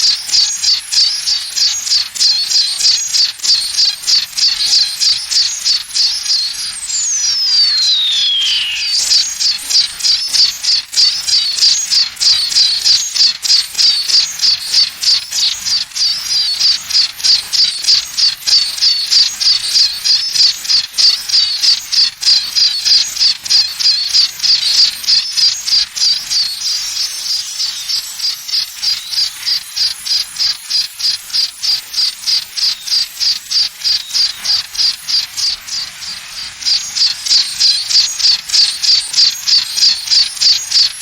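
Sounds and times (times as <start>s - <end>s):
high-pitched pulsing chirp: 0.0s - 41.0s.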